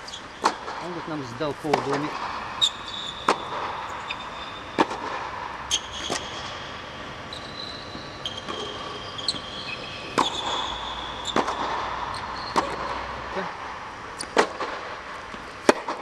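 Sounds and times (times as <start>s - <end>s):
shoes squeaking on hard court: 0.0s - 13.2s
tennis balls struck or bouncing: 0.3s - 7.2s, 7.9s - 16.0s.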